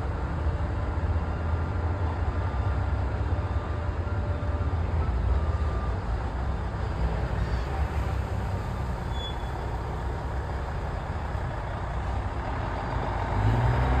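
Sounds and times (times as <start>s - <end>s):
heavy vehicle engine rumbling: 0.0s - 14.0s.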